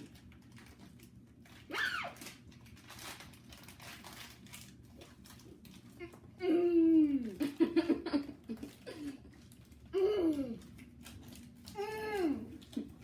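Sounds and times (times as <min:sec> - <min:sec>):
wrapper crinkling and tearing: 0:00.0 - 0:06.3, 0:08.5 - 0:13.0.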